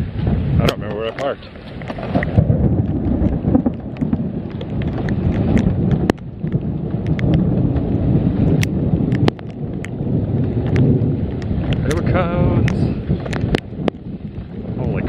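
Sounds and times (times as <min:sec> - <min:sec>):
heavy rain rumble: 0:00.0 - 0:15.0
raindrops ticking on microphone: 0:00.0 - 0:15.0.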